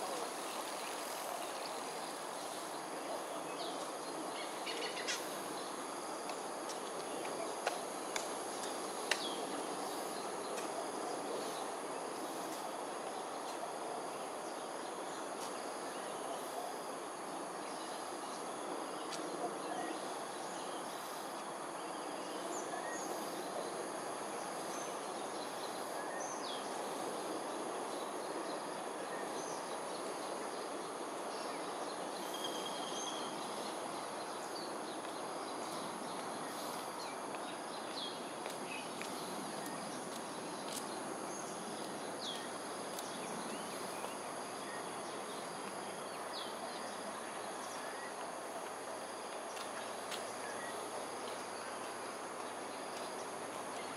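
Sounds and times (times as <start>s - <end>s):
background hiss: 0.0s - 53.9s
insect chorus: 0.0s - 53.9s.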